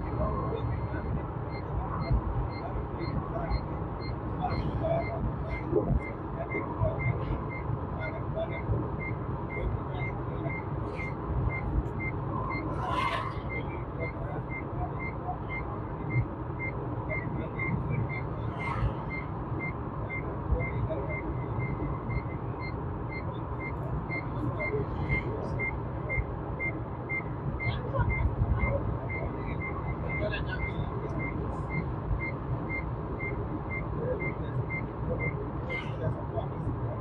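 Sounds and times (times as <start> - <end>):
road and engine rumble: 0.0 - 37.0.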